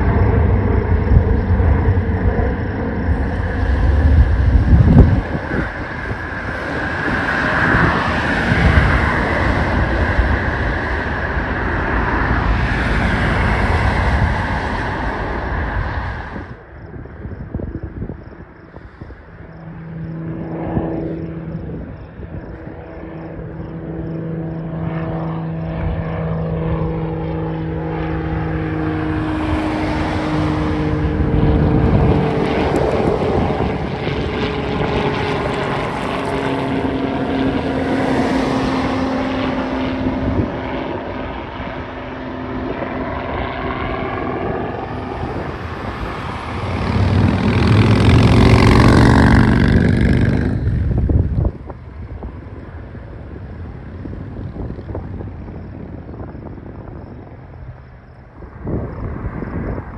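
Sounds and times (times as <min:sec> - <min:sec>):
propeller airplane engine drone: 0:00.0 - 0:59.9.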